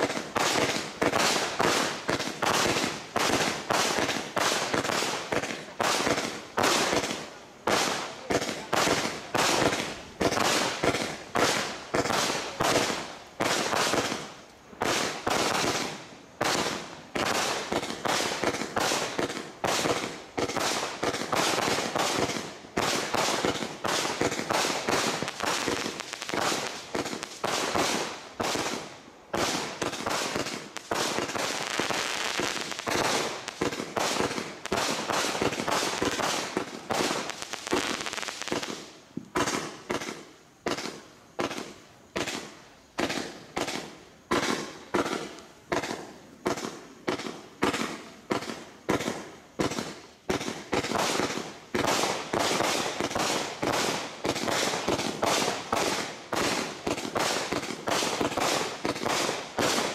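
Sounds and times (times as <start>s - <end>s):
firework shots launching: 0.0s - 59.9s
fireworks bursting in the air: 0.0s - 59.9s.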